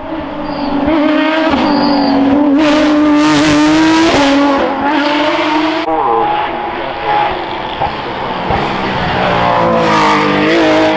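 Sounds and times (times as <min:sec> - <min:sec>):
car engine revving high: 0:00.2 - 0:10.9.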